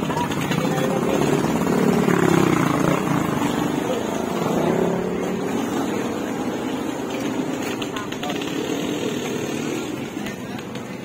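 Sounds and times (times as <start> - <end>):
low voices: 0.0 - 11.0.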